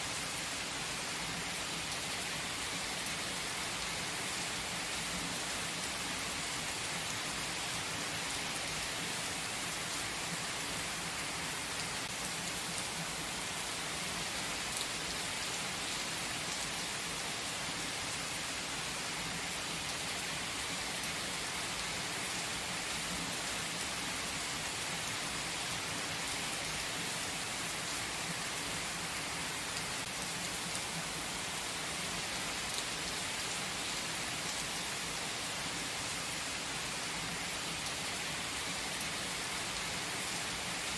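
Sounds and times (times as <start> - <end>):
rain falling on trees: 0.0 - 40.9.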